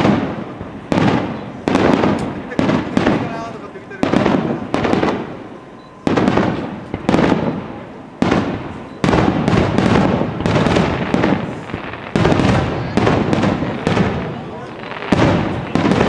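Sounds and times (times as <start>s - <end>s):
firework shells bursting: 0.0s - 16.0s.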